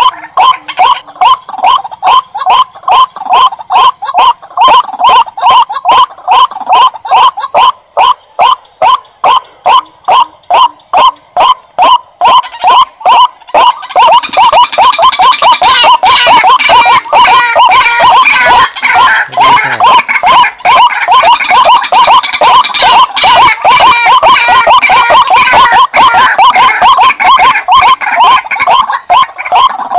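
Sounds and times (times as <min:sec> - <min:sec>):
waterhen calling: 0:00.0 - 0:29.9.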